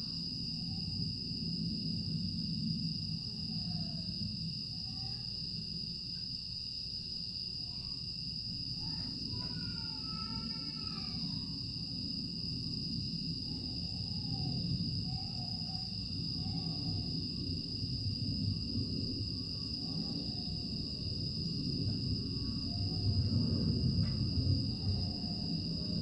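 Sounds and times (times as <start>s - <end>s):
insects trilling: 0.0s - 26.0s
low background rumble: 0.0s - 26.0s.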